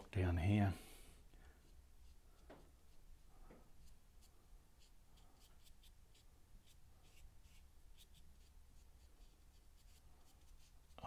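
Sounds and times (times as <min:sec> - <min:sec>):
paintbrush strokes on canvas: 0:01.6 - 0:11.0.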